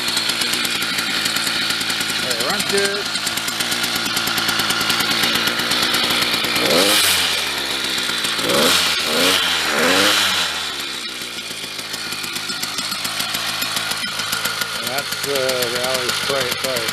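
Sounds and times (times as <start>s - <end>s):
two-stroke engine revving: 0.0s - 16.9s.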